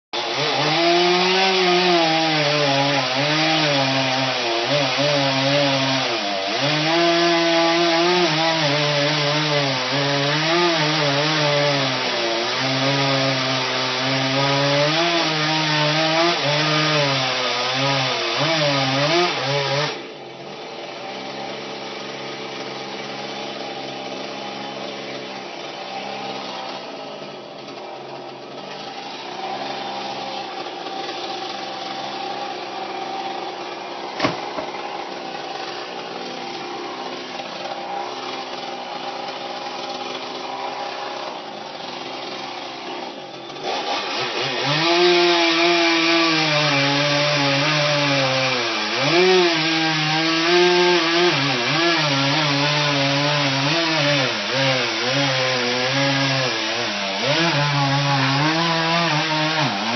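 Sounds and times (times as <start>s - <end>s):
chainsaw cutting wood: 0.2s - 59.9s.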